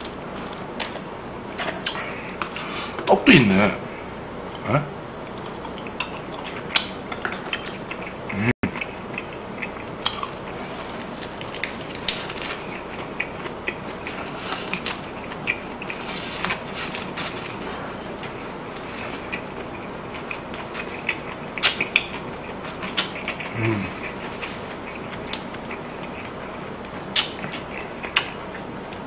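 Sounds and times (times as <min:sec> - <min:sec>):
close-up chewing: 0:05.2 - 0:29.0.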